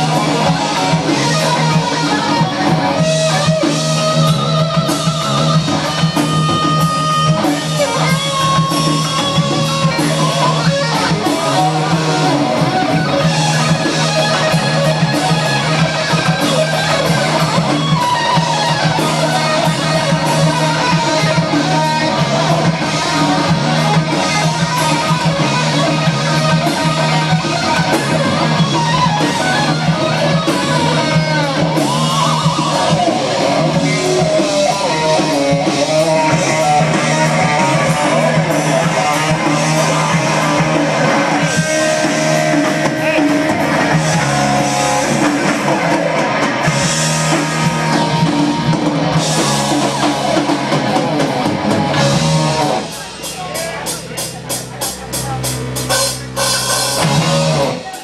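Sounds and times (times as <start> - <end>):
lead electric guitar bent notes: 0.0 - 58.0
rock band playing: 0.0 - 58.0.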